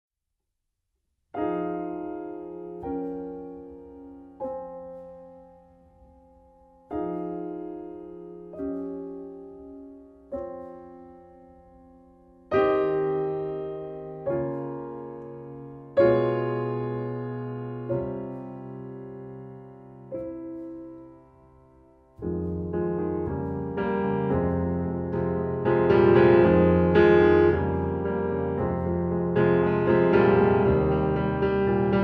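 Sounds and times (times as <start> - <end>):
piano playing slow chords: 1.4 - 32.0.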